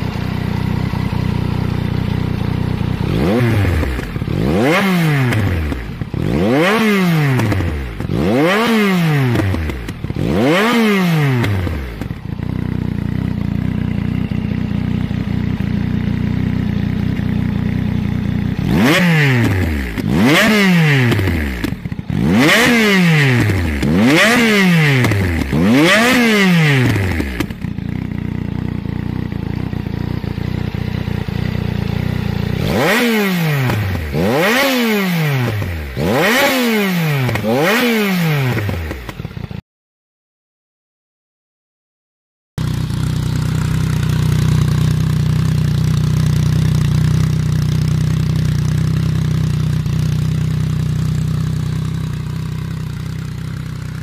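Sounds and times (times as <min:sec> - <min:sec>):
motorcycle engine idling: 0:00.0 - 0:34.7, 0:38.5 - 0:39.6, 0:42.6 - 0:54.0
motorcycle engine revving: 0:00.0 - 0:39.6, 0:42.6 - 0:54.0.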